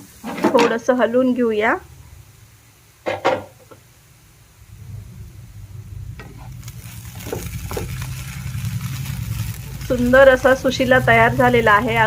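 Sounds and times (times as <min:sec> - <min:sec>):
light sizzling: 0:00.0 - 0:12.0
steady low hum: 0:00.9 - 0:12.0.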